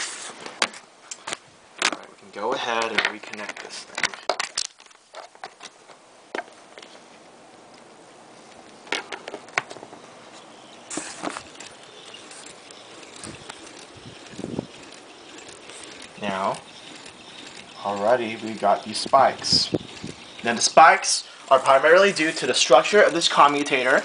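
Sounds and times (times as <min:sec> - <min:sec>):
wire lead clicks and rustles: 0:00.4 - 0:24.0.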